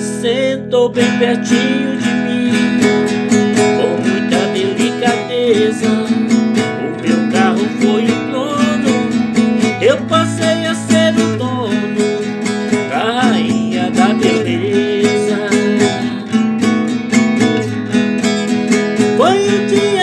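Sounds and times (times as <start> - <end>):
classical guitar strumming: 0.0 - 20.0
man singing: 0.0 - 20.0.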